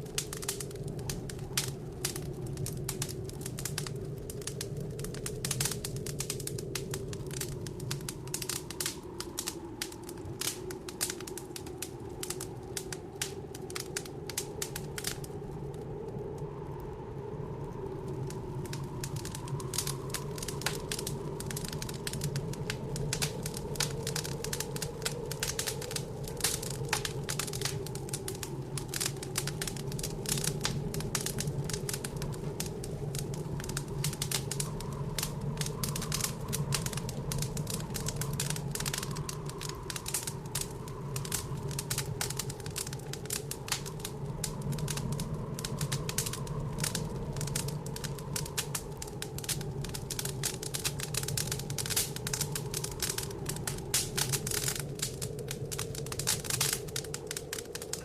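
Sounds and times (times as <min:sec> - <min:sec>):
howling blizzard wind: 0:00.0 - 0:58.0
wood fire crackling: 0:00.0 - 0:58.0.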